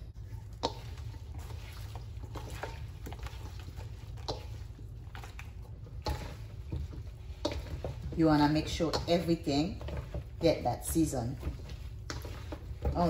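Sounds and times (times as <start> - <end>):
steady low hum: 0.0 - 13.0
vegetables rustling in a bowl: 0.0 - 13.0.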